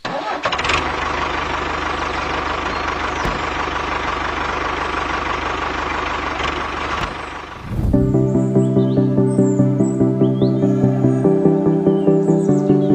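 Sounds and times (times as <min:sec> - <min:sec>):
engine running with pulsing: 0:00.5 - 0:12.5.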